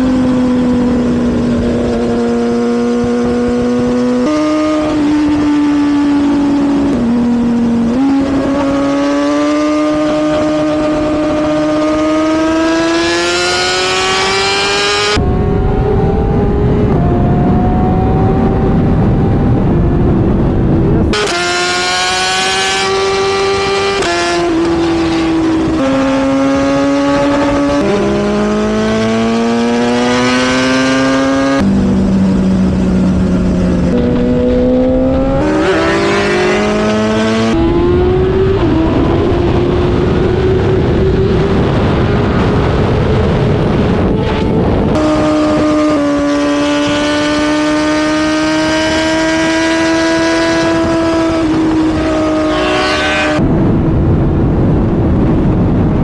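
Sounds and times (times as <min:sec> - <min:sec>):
loud wind rush: 0:00.0 - 0:56.0
motorcycle engine revving: 0:00.0 - 0:56.0.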